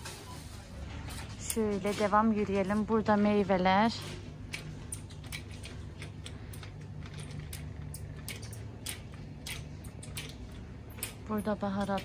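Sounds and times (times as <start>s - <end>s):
steady low hum: 0.0s - 12.0s
shopping cart clicking and rattling: 0.9s - 12.0s.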